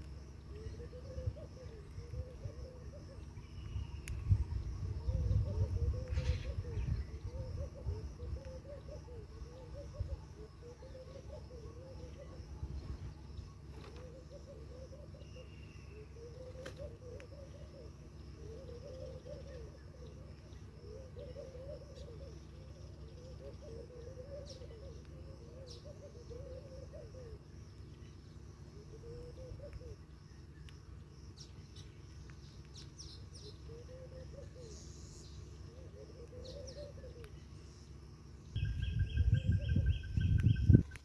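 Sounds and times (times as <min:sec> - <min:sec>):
low background rumble: 0:00.0 - 0:41.0
bird cooing: 0:00.4 - 0:03.9, 0:04.5 - 0:28.0, 0:28.6 - 0:30.1, 0:33.3 - 0:37.6, 0:38.6 - 0:41.0.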